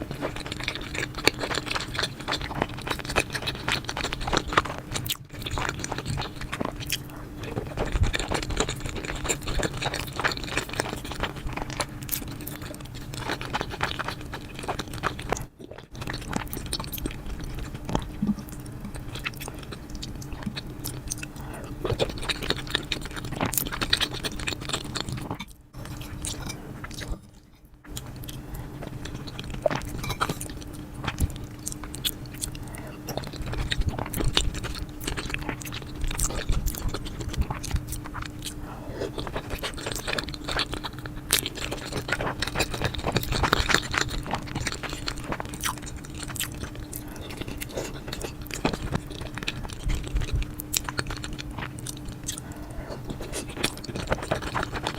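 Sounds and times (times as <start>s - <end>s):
chewing and mouth smacking: 0.0s - 54.9s.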